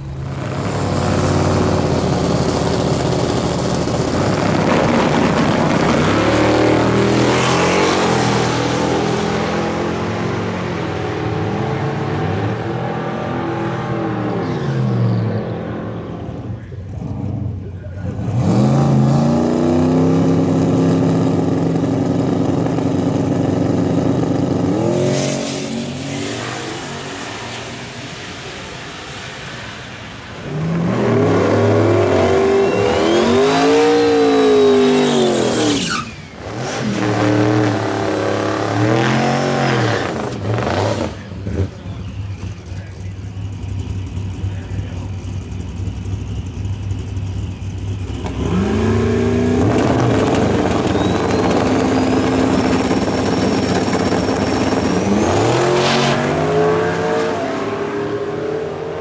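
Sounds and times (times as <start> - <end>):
car engines accelerating hard: 0.0 - 59.0.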